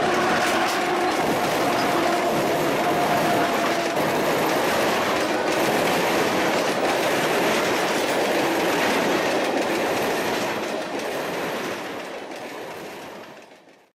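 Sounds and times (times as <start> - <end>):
steel wheels running on rails: 0.0 - 13.9.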